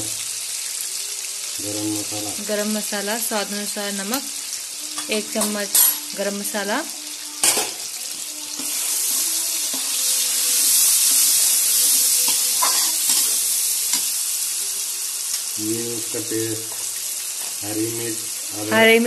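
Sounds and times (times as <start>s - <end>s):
masala sizzling in hot oil: 0.0s - 19.0s.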